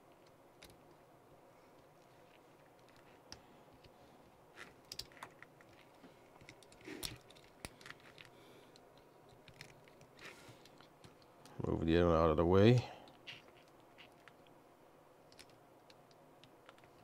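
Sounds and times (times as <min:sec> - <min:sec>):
clicks and rustles of wires: 0:00.0 - 0:11.6, 0:12.8 - 0:14.6, 0:15.2 - 0:17.0.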